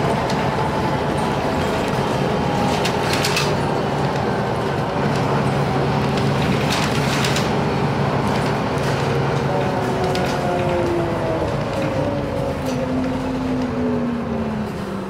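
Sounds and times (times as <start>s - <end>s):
bus body rattling: 0.0s - 15.0s
bus engine droning: 0.0s - 15.0s.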